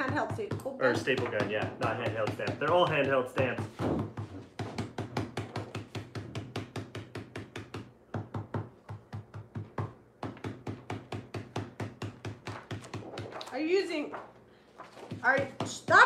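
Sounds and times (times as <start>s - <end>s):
stencil brushes tapping on card: 0.0s - 13.5s, 15.0s - 16.0s.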